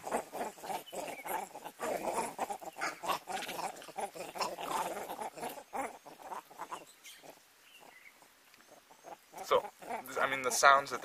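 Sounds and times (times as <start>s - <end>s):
monkeys making harsh calls: 0.0s - 8.0s, 8.7s - 11.0s.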